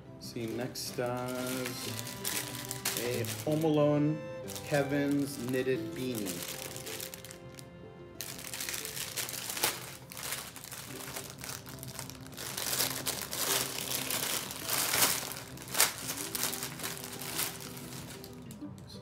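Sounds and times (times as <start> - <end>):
packaging crinkling: 0.4 - 18.6.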